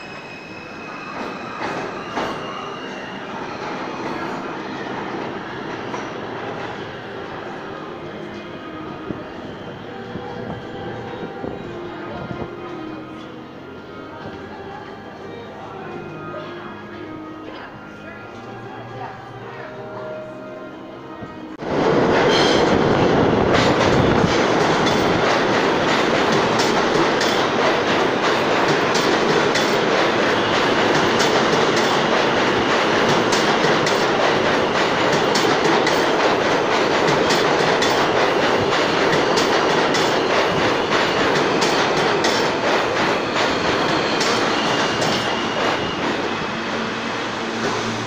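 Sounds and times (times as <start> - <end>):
subway train rumbling and braking: 0.0 - 48.0.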